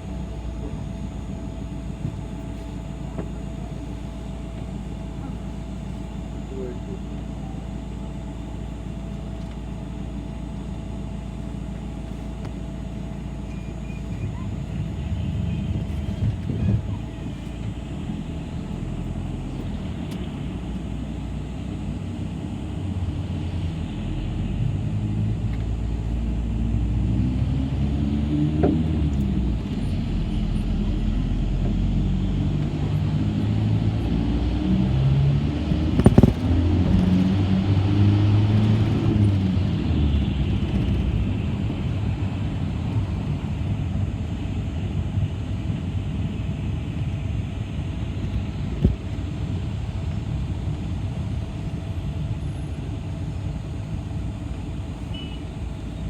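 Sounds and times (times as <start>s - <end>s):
bus engine running: 0.0s - 56.0s
road noise: 0.0s - 56.0s.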